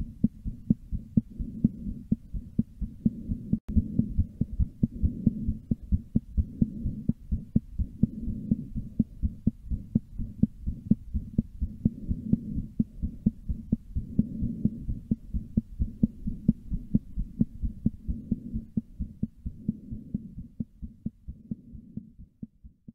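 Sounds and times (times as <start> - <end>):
fast heartbeat thumps: 0.0 - 22.9
steady low hum: 0.0 - 22.9.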